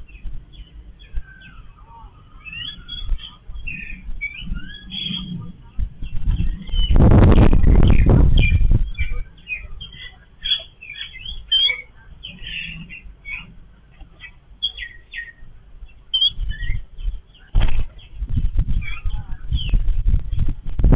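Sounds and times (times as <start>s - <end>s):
babblers chirping: 0.0s - 20.5s
loud low rumbling: 0.0s - 20.9s.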